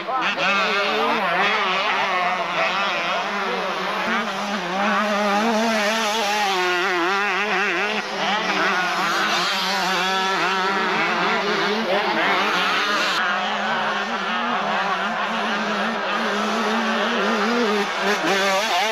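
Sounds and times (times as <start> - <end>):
motocross bikes revving: 0.0 - 18.9.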